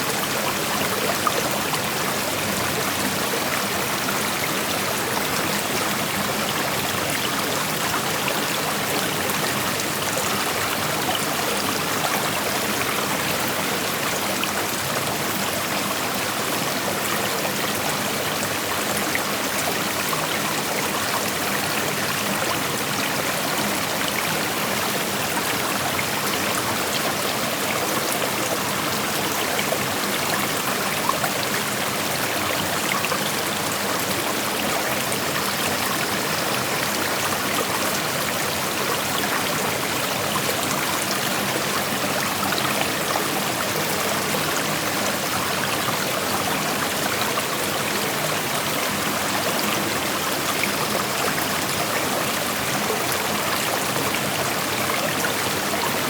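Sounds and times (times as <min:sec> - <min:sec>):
creek water flowing over rocks: 0:00.0 - 0:56.0.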